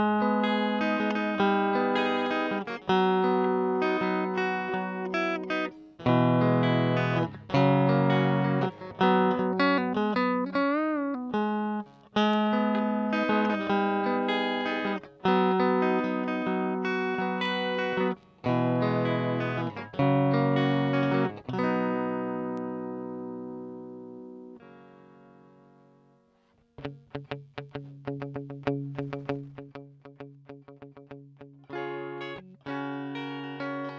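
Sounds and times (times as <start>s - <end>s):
electric guitar chords and notes: 0.0s - 33.9s.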